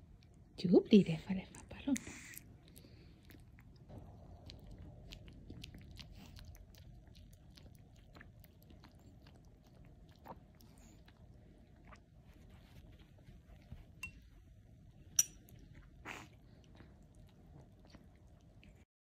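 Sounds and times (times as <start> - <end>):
dog licking and chewing: 1.5 - 14.4, 15.4 - 18.8.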